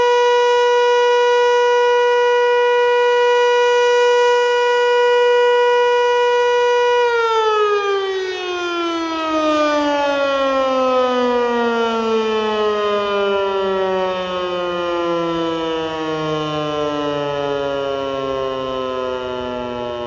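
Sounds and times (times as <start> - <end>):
electric siren winding down: 0.0 - 20.0.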